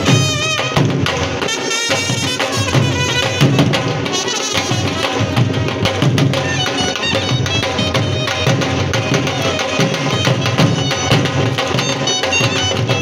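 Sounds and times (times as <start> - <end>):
barrel drums beating: 0.0 - 13.0
wavering wind instrument melody: 0.0 - 13.0.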